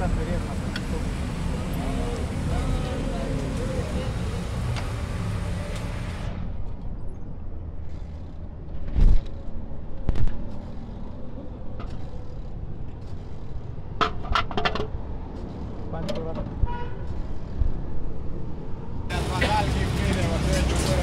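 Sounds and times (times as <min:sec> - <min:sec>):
street traffic rumbling: 0:00.0 - 0:21.0.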